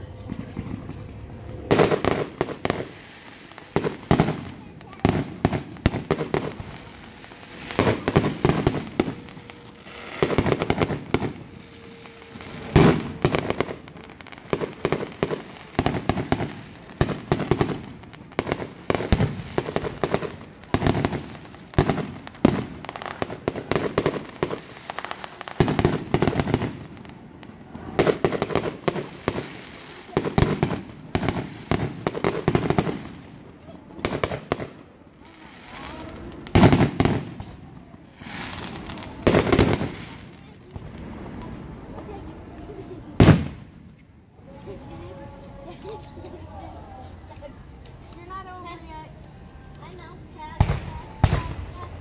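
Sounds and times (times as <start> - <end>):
fireworks bursts and crackling: 0.0 - 52.0.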